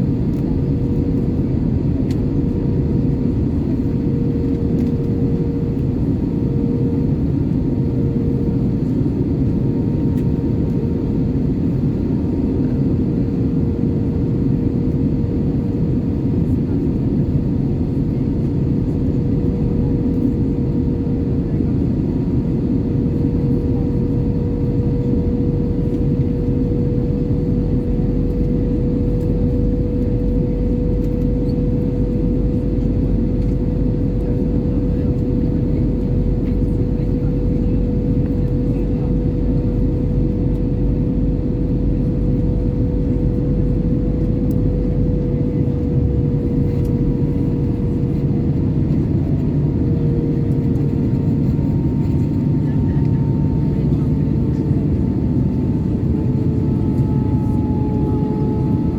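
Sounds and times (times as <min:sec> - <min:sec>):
airplane cabin noise: 0:00.0 - 0:58.9
constant hum tone: 0:00.0 - 0:58.9.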